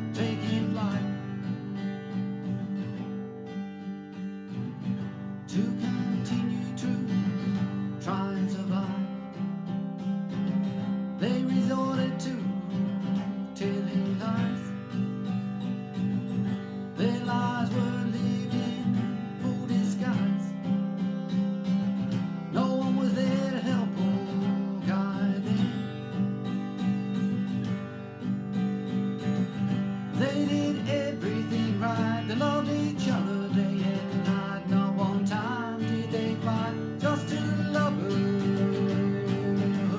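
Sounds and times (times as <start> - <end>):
strummed acoustic guitar chords: 0.0 - 39.9.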